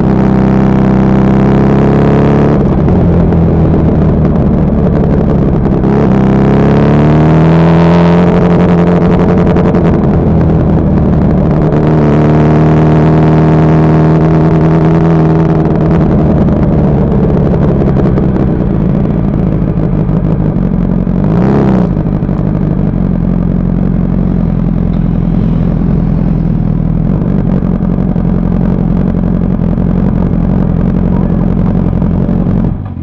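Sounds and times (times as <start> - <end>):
motorcycle engine at low revs: 0.0 - 33.0.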